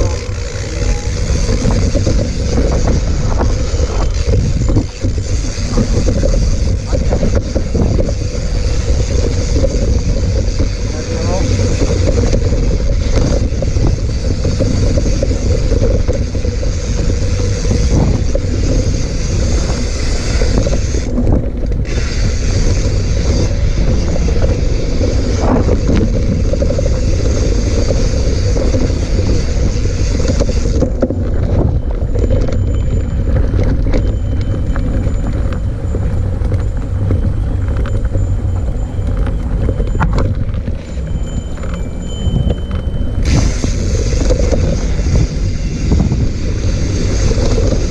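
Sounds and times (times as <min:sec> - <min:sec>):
bike tyres rattling on dirt: 0:00.0 - 0:47.9
wind rumbling on microphone: 0:00.0 - 0:47.9.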